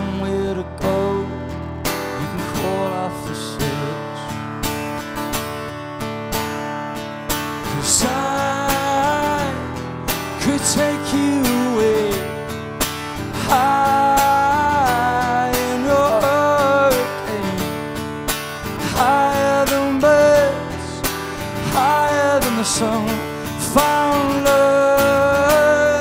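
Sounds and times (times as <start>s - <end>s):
man singing: 0.0s - 4.5s, 7.6s - 26.0s
acoustic guitar strumming: 0.0s - 26.0s.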